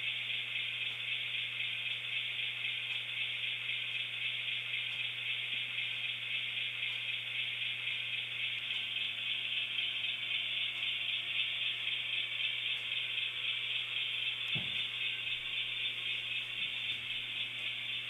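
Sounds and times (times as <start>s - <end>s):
low steady hum: 0.0s - 18.0s
model train motor whirring: 0.0s - 18.0s.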